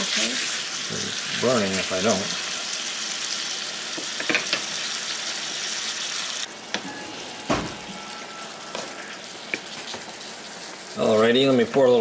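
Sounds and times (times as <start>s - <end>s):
meat sizzling in a pan: 0.0s - 6.5s, 8.3s - 12.0s.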